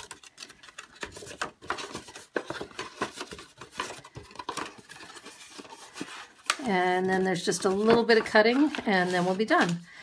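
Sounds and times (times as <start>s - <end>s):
paper crackling and rustling: 0.0s - 9.8s.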